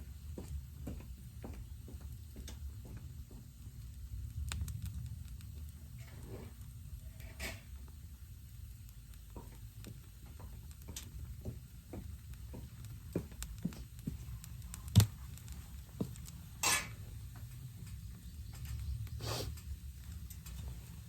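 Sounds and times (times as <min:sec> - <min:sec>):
low steady rumble: 0:00.0 - 0:21.0
wood fire crackling and popping: 0:00.0 - 0:21.0
wood fire snap: 0:00.2 - 0:21.0.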